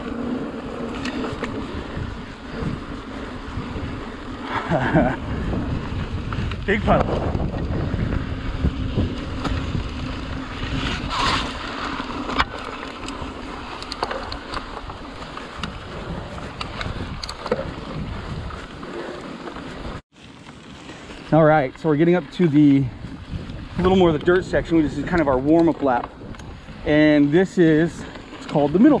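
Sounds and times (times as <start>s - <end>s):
wind buffeting microphone: 0.0s - 12.4s, 13.0s - 19.0s, 21.9s - 28.1s
bike clicks and rattles: 0.0s - 29.0s
bike tyres rolling on dirt: 0.0s - 29.0s.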